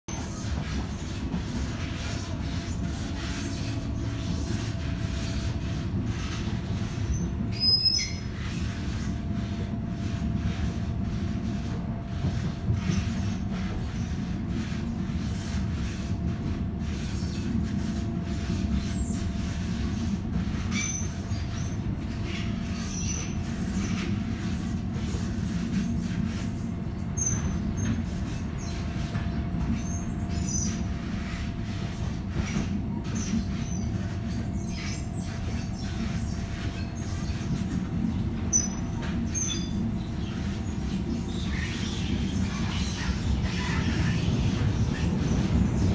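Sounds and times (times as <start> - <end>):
train wheels rumbling on track: 0.1 - 45.9.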